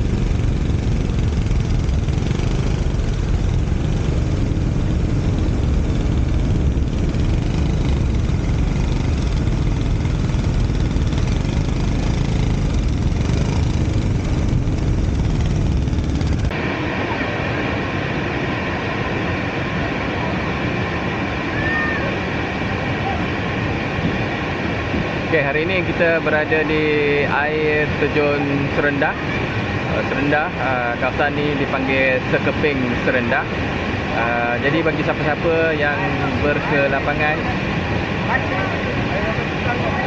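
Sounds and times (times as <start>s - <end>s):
riding wind on microphone: 0.0s - 40.0s
scooter engine running: 0.0s - 40.0s.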